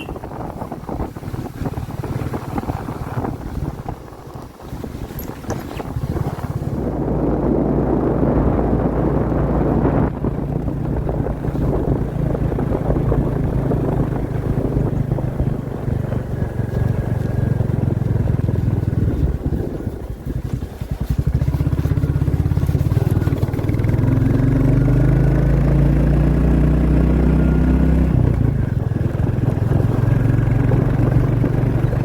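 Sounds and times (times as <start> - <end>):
wind rushing: 0.0 - 26.2
motorcycle engine running: 0.0 - 32.0.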